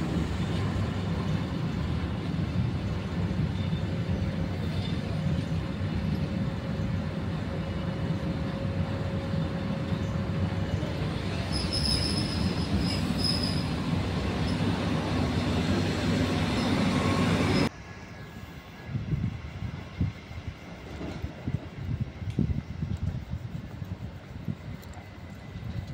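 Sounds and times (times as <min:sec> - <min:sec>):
train wheels squealing: 0:00.0 - 0:22.7
train rumbling: 0:00.0 - 0:25.9.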